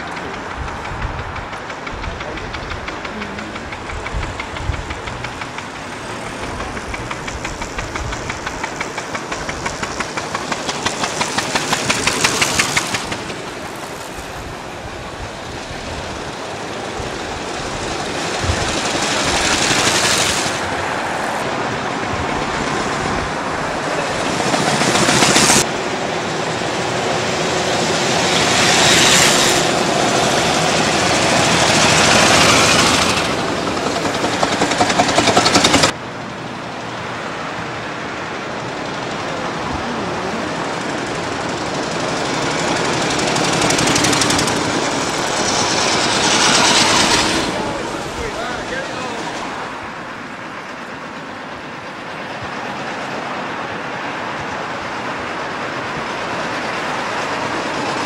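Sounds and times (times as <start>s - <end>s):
old car engines chugging past: 0.0s - 58.0s.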